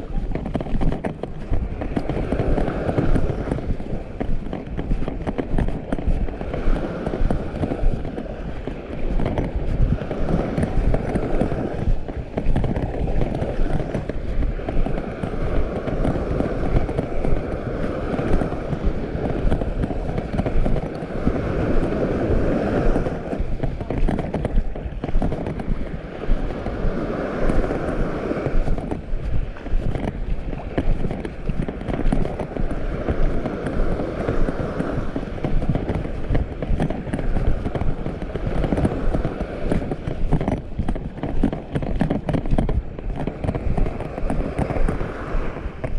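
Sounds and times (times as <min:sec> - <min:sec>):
footsteps on sand: 0:00.0 - 0:45.9
small waves washing ashore: 0:00.0 - 0:45.9.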